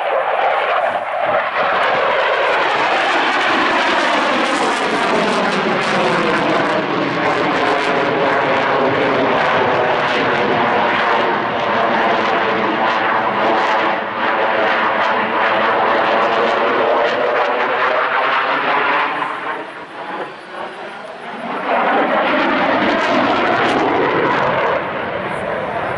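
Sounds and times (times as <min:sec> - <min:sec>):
fighter jet noise overhead: 0:00.0 - 0:25.9.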